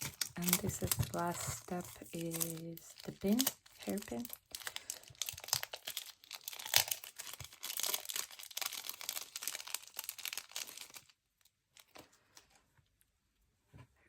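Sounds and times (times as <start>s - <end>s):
plastic packaging crinkling: 0.0s - 12.5s.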